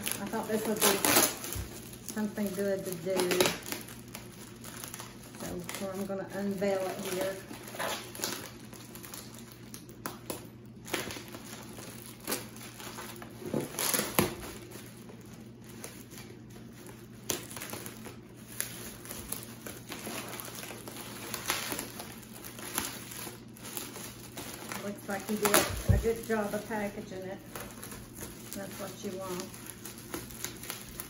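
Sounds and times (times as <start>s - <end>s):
packing material crinkling: 0.0s - 31.0s.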